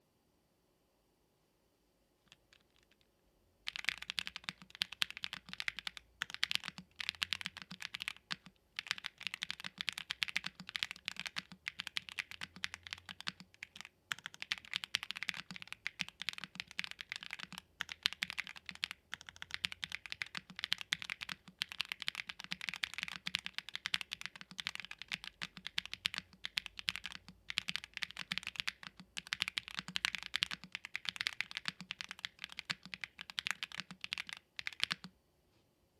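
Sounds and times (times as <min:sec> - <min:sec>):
fast mechanical keyboard typing: 0:03.7 - 0:35.1.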